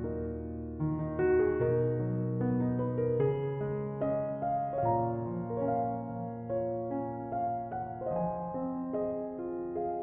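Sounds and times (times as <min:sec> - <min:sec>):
soft slow piano melody: 0:00.0 - 0:10.0.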